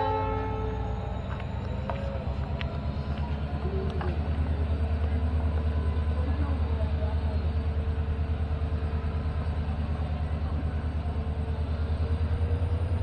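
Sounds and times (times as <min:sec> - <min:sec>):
train coaches rolling on track: 0:00.0 - 0:13.0.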